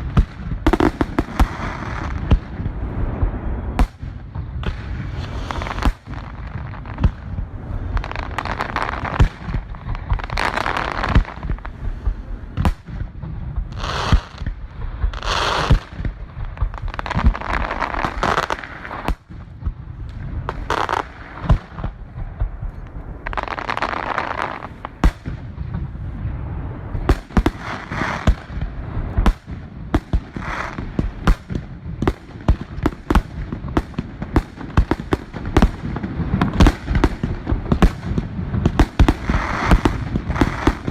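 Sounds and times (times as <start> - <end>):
fireworks bangs and booms: 0.0 - 40.9
fireworks crackling: 0.0 - 40.9.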